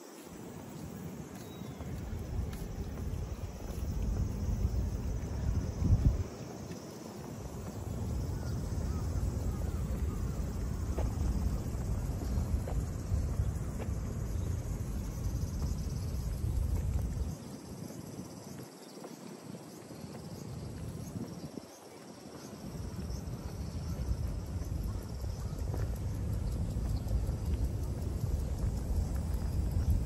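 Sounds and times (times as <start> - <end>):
insects chirring: 0.0 - 30.0
wind buffeting microphone: 0.4 - 18.7, 19.5 - 30.0.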